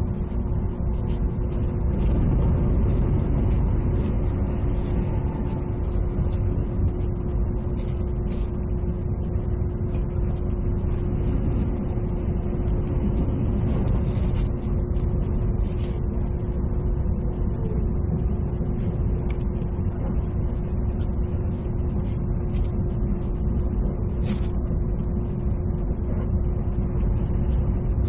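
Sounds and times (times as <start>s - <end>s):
constant hum: 0.0s - 28.0s
train wheels rumbling on rail: 0.0s - 28.0s.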